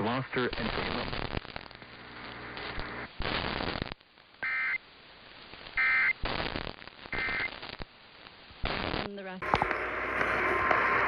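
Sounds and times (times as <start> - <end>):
crackling radio static: 0.0 - 11.0.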